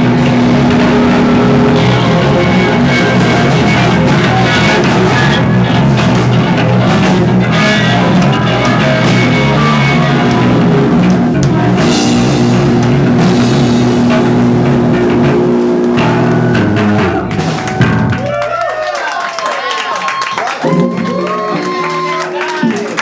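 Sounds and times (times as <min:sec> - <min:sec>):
rock band playing live: 0:00.0 - 0:18.5, 0:20.5 - 0:23.0.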